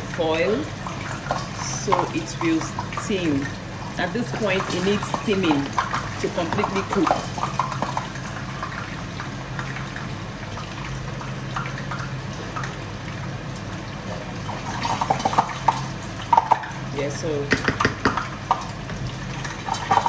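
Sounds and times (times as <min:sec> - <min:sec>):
rice simmering and bubbling: 0:00.0 - 0:20.0.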